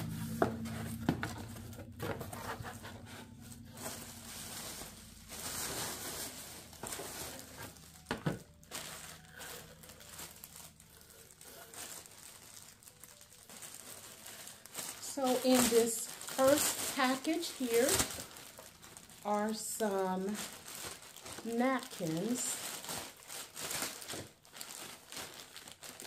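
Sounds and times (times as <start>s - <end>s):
plastic packing crinkling and rustling: 0.0s - 26.0s.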